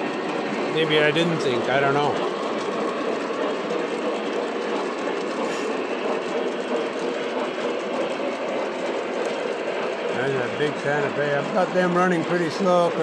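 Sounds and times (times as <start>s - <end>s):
model trains whirring on metal track: 0.0s - 13.0s.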